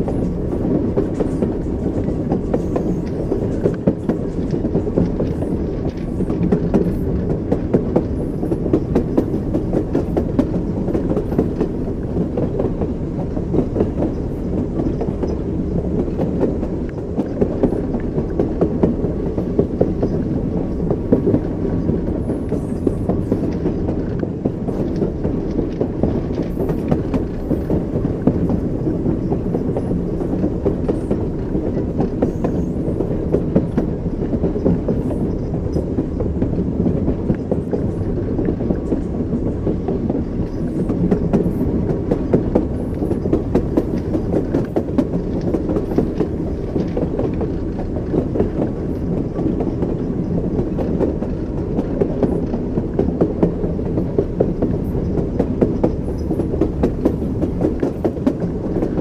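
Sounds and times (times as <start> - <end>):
low rumble of moving train: 0.0 - 59.0
train wheels clickety-clack: 0.0 - 59.0.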